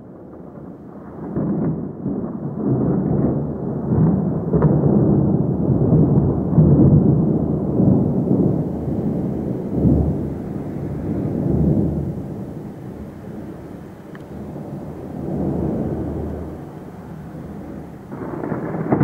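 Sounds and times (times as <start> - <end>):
thunder rolling: 0.0 - 19.0.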